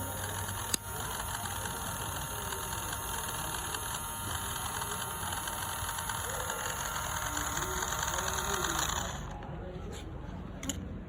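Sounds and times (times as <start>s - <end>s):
small electric motor running: 0.0s - 9.4s.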